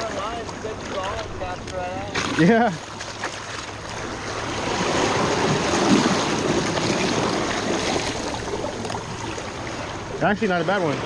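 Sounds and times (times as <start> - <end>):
seawater churning between rocks: 0.0 - 11.0.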